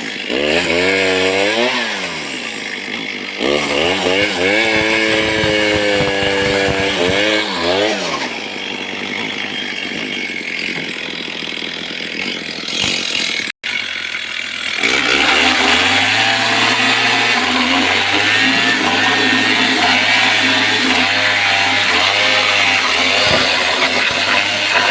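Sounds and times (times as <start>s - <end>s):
chainsaw revving and cutting wood: 0.0s - 24.9s.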